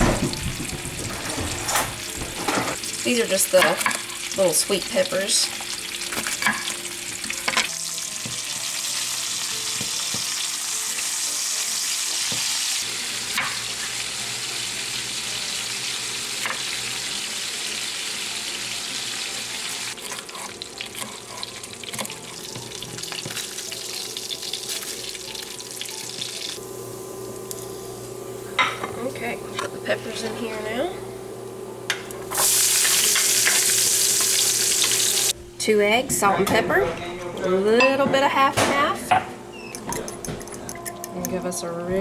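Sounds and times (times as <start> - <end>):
food sizzling in frying pan: 0.0 - 29.5, 30.1 - 35.4.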